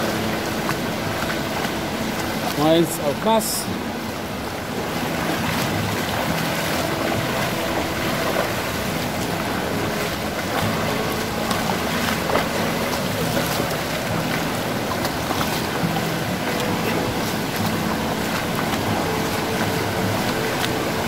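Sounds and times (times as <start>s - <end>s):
feet splashing through water: 0.0s - 21.0s
stream rushing over rocks: 0.0s - 21.0s.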